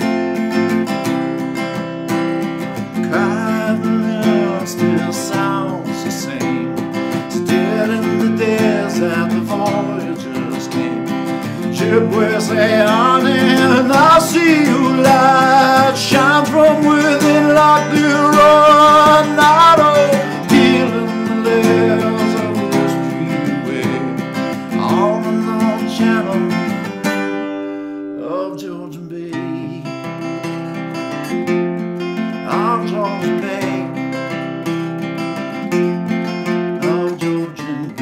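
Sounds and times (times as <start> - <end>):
acoustic guitar strummed: 0.0 - 38.0.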